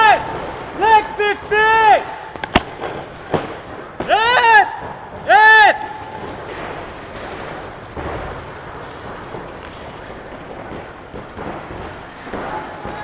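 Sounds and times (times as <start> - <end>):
paintball markers firing: 0.0 - 4.1, 4.8 - 13.0.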